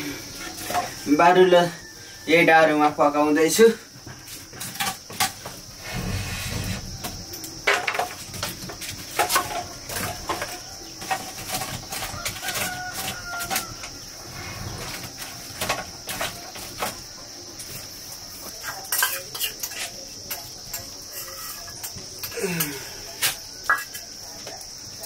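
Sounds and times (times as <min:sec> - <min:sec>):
high insect drone: 0:00.0 - 0:25.0
wood fire crackling: 0:00.0 - 0:25.0.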